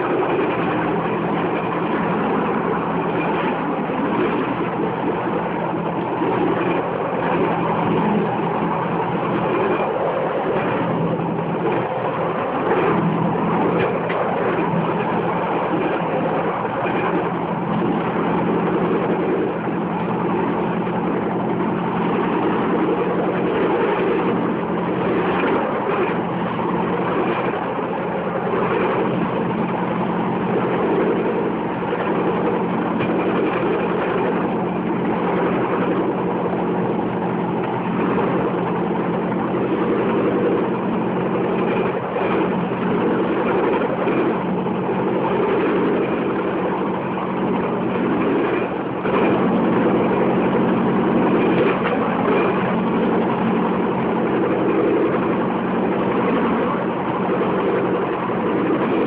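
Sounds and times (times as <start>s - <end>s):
rattling on rails: 0.0s - 59.0s
small engine running steadily: 0.0s - 59.0s.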